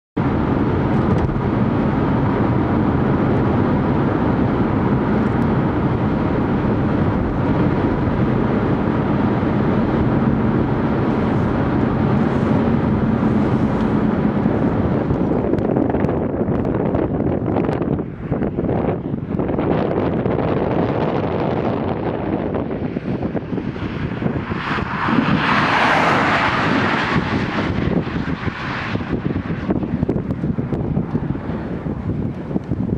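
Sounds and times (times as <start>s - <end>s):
car driving interior drone: 0.2s - 32.9s
wind noise: 0.2s - 32.9s.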